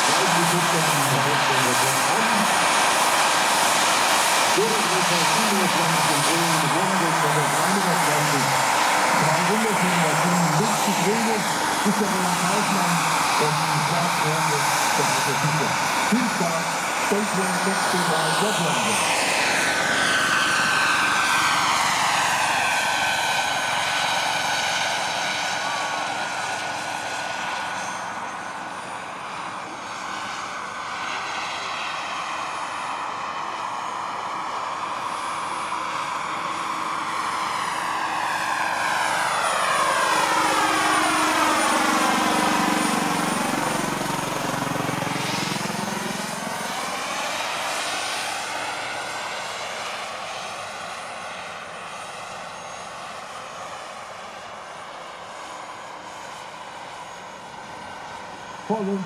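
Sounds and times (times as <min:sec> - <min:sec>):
helicopter rotor rushing: 0:00.0 - 0:59.0
model helicopter turbine whine: 0:00.0 - 0:59.0.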